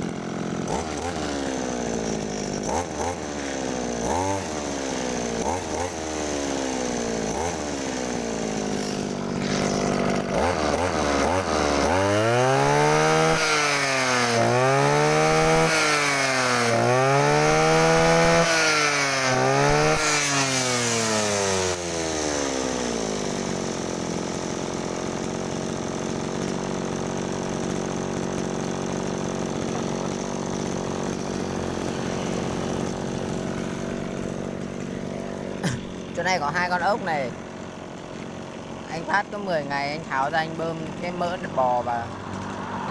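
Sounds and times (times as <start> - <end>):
brush cutter engine revving: 0.0 - 42.9.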